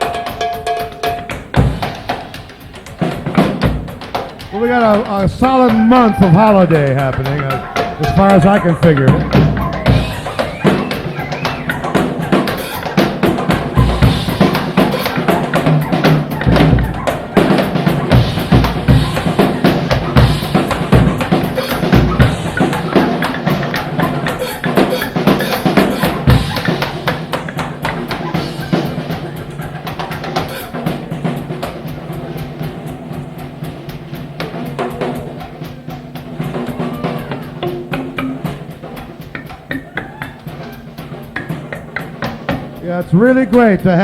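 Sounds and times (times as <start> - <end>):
drum kit snare rolls: 0.0 - 44.0
low band instrument tones: 0.0 - 44.0.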